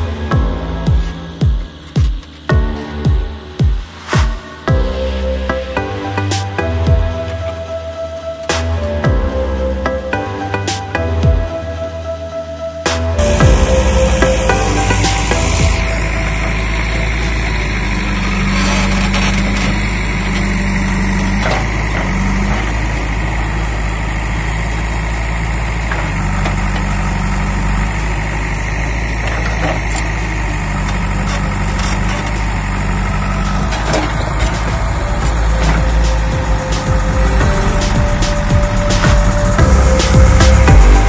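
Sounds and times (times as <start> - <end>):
backhoe diesel engine running: 0.0 - 41.0.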